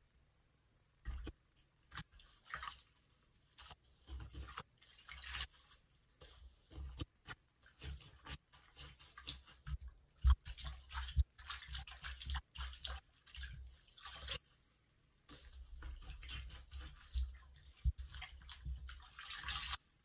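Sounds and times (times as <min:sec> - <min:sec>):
wet sponge squishing: 0:01.0 - 0:20.0
water splashing and dripping: 0:01.9 - 0:02.9, 0:03.6 - 0:14.5, 0:15.3 - 0:20.0.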